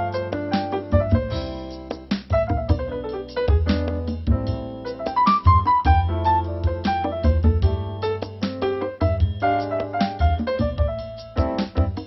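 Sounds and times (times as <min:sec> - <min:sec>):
keyboard melody with bass and beat: 0:00.0 - 0:12.0.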